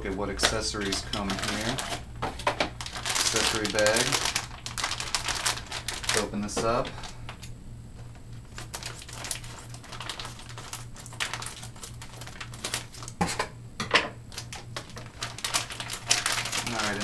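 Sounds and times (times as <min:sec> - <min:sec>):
plastic crinkling: 0:00.2 - 0:13.2, 0:14.3 - 0:17.0.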